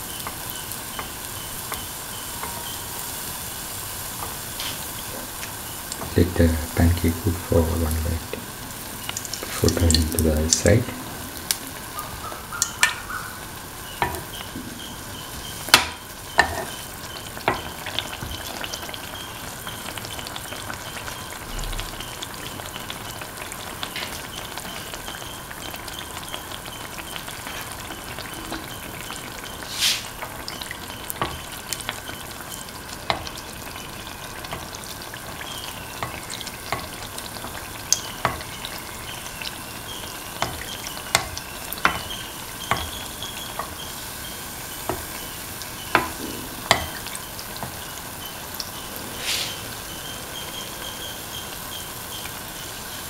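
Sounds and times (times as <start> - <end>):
batter sizzling in hot oil: 0.0 - 53.0.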